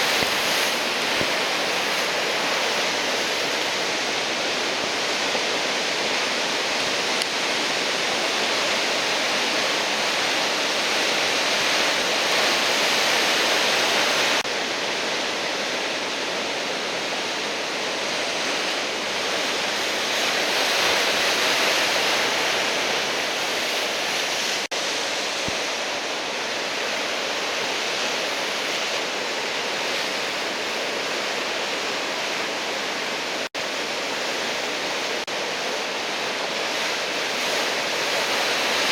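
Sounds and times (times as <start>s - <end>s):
heavy surf breaking waves: 0.0s - 38.9s.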